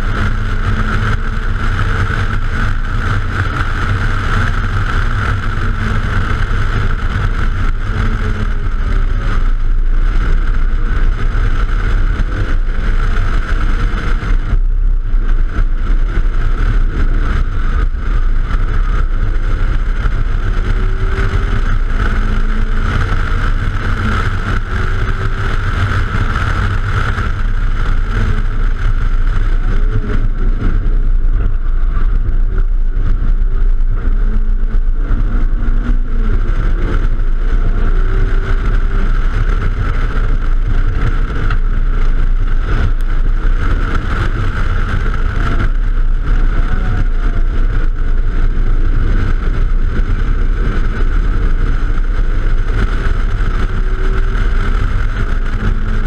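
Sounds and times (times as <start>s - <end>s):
car engine: 0.0s - 56.0s
wind rumbling over microphone: 0.0s - 56.0s.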